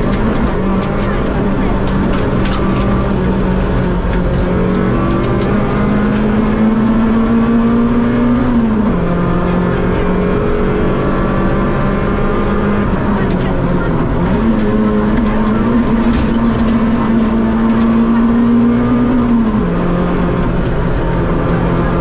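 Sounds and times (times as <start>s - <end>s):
rally car engine: 0.0s - 22.0s
road noise: 0.0s - 22.0s.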